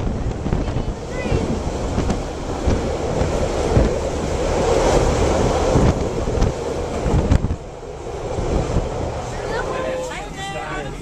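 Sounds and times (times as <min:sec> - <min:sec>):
train carriages rumbling on rails: 0:00.0 - 0:11.0
wind rushing over microphone: 0:00.0 - 0:11.0.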